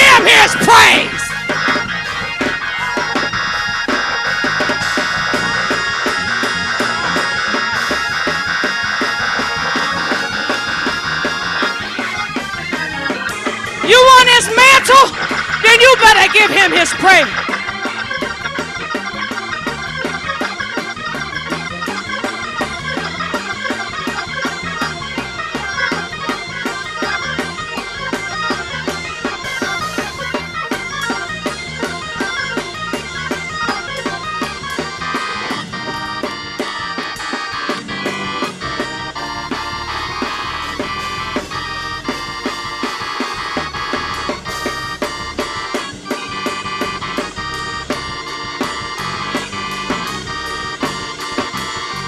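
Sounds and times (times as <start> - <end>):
organ playing gospel music: 0.0 - 52.0
quick steady beat: 0.0 - 52.0.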